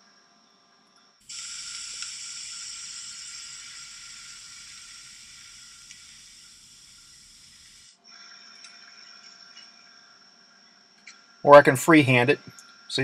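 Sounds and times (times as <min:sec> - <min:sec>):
welding arc hissing: 0:01.2 - 0:13.0.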